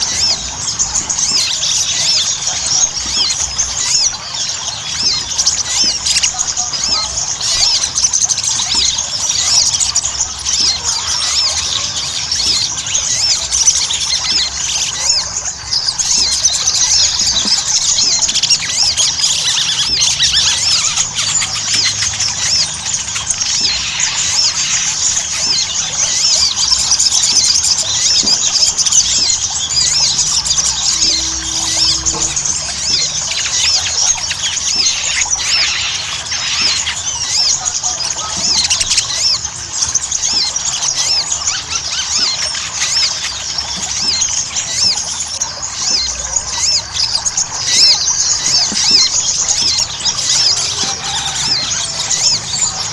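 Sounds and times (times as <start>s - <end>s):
bird singing rapid chirps: 0.0s - 52.9s.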